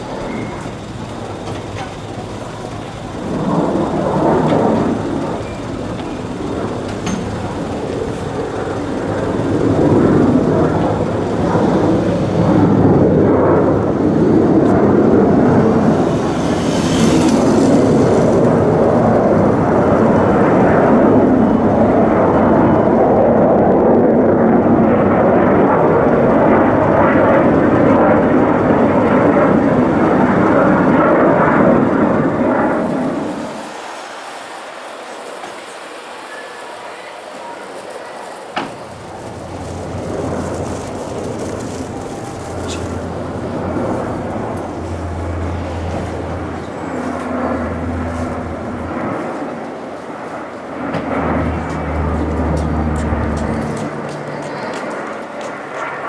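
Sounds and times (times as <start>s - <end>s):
military aircraft engine roar: 0.0s - 56.0s.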